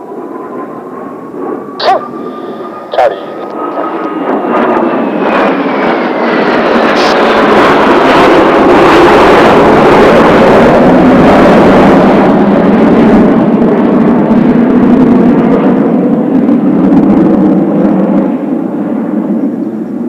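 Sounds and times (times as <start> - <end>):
jet engine whine: 0.0 - 20.0
jet engines roaring: 0.0 - 20.0.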